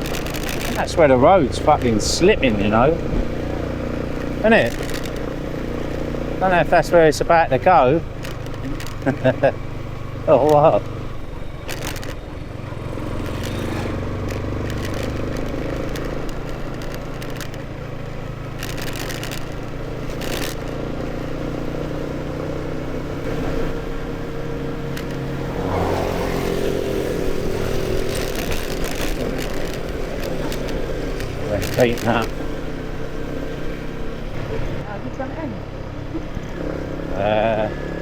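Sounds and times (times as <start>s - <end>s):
motorcycle engine revving: 0.0s - 38.0s
wind and road noise: 0.0s - 38.0s.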